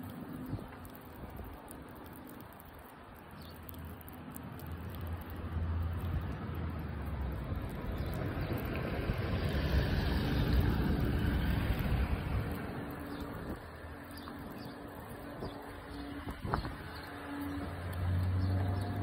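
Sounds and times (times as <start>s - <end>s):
outdoor rumble and hiss: 0.0s - 19.0s.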